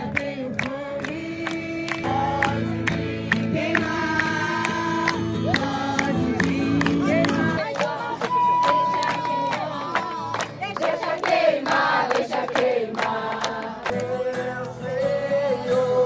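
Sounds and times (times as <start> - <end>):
group of voices singing: 0.0 - 16.0
sharp claps or beats: 0.1 - 14.8.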